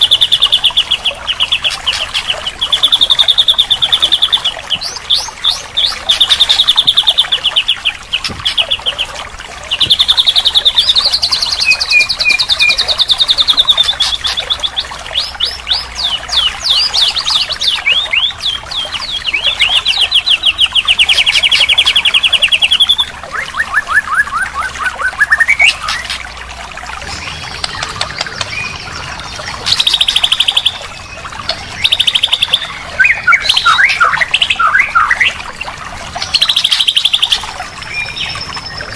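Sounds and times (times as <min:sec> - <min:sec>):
bird song with trills: 0:00.0 - 0:26.3, 0:27.0 - 0:38.9.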